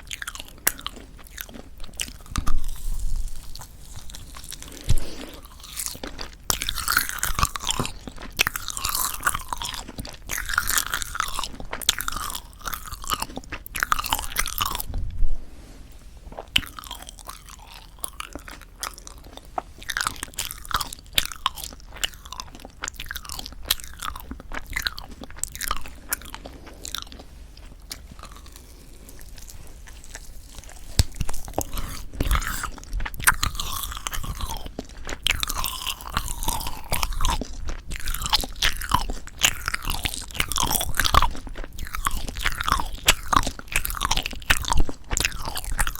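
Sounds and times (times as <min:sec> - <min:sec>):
chewing and biting marshmallow: 0:00.0 - 0:15.2, 0:16.3 - 0:45.9
sticky crunchy mouth sounds: 0:00.0 - 0:15.2, 0:16.3 - 0:45.9.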